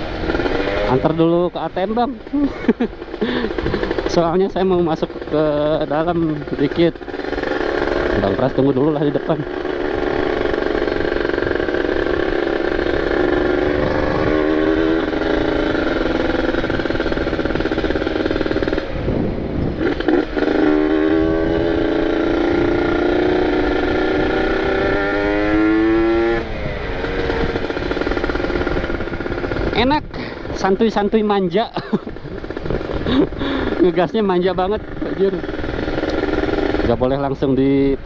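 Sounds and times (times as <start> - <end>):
two-stroke motorcycle engine revving: 0.0 - 38.0.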